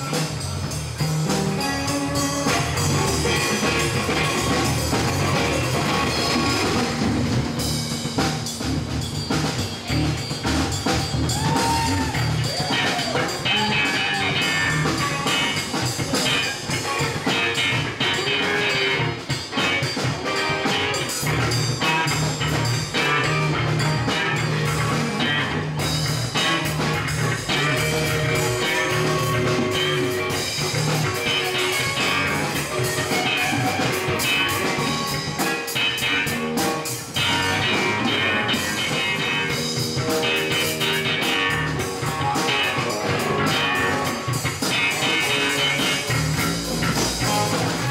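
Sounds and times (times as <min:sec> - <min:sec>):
drum kit: 0:00.0 - 0:47.9
electric guitars: 0:00.0 - 0:47.9.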